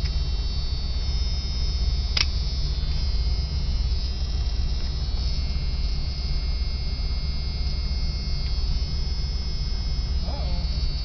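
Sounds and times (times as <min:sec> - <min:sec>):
engine idling low rumble: 0:00.0 - 0:11.0
faint high whine: 0:00.0 - 0:11.0.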